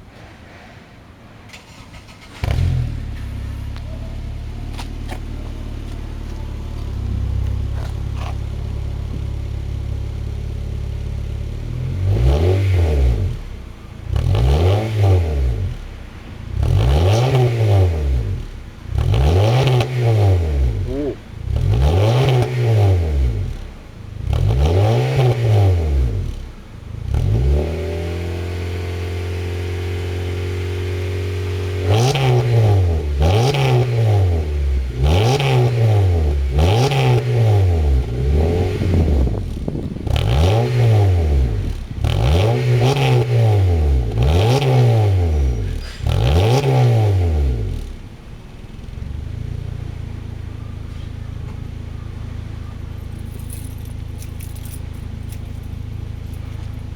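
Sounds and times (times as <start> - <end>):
car engine revving: 1.5 - 56.9.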